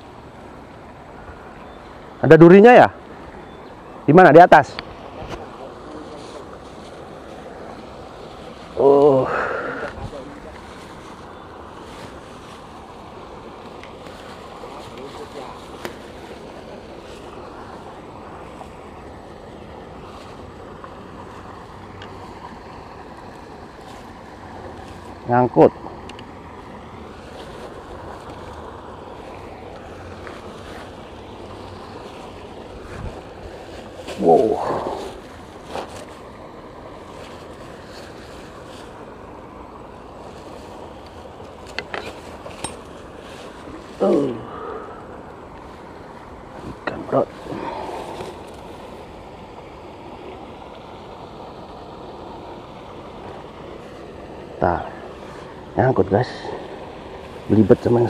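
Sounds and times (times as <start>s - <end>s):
river water rushing: 0.0s - 58.0s
wind: 0.0s - 58.0s.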